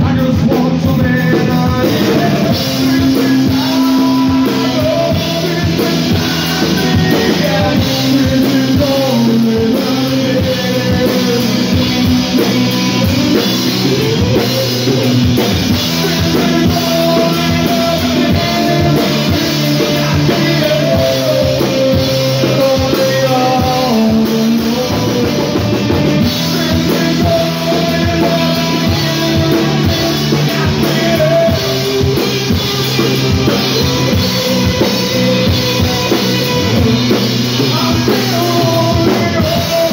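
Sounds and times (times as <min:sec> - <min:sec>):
drum kit: 0:00.0 - 0:39.9
electric bass: 0:00.0 - 0:39.9
man singing: 0:00.0 - 0:39.9.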